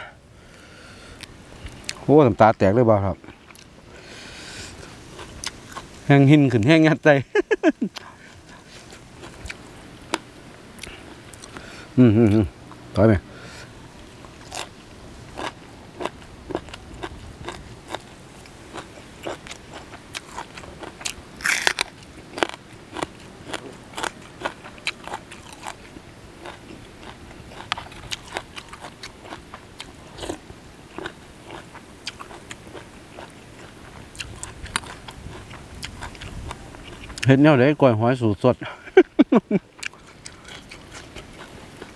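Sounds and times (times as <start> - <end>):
crunchy chewing: 3.2 - 6.1, 7.9 - 37.4, 39.2 - 41.9.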